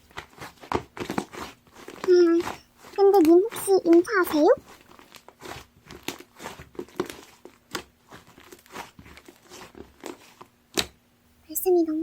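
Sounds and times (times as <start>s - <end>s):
slime squished by hand: 0.1s - 11.0s.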